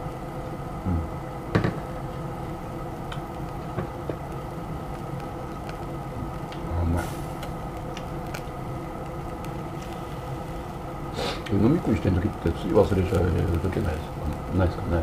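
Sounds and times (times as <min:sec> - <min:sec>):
food crackling on charcoal grill: 0:00.0 - 0:15.0
steady hum: 0:00.0 - 0:15.0.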